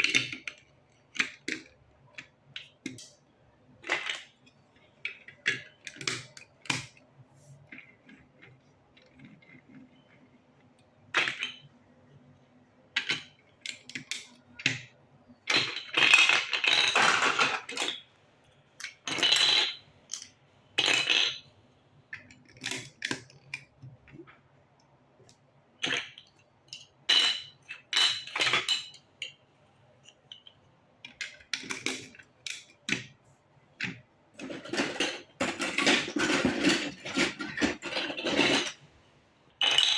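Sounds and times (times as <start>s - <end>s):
plastic bricks clicking and rattling: 0.0s - 3.2s, 3.8s - 7.0s, 7.6s - 11.7s, 12.9s - 18.1s, 18.8s - 21.5s, 22.1s - 24.4s, 25.2s - 29.4s, 30.0s - 38.8s, 39.6s - 39.9s.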